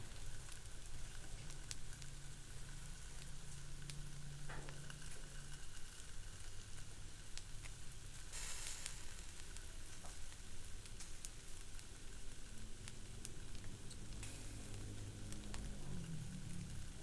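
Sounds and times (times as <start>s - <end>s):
fat popping and crackling: 0.0s - 17.0s
fish sizzling on a grill: 0.0s - 17.0s.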